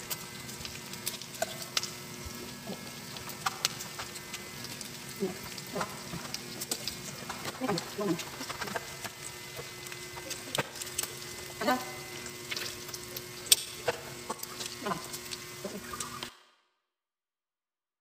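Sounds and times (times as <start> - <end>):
fat sizzling and popping: 0.0 - 16.4.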